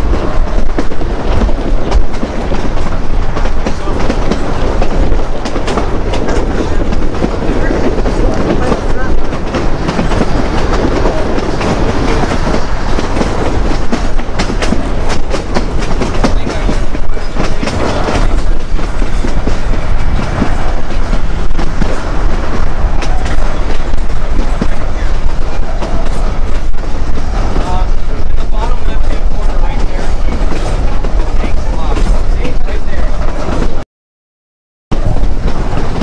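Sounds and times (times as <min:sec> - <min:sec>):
steady train rumble: 0:00.0 - 0:33.8, 0:34.9 - 0:36.0
train wheels clicking on rail joints: 0:00.0 - 0:33.8, 0:35.0 - 0:36.0.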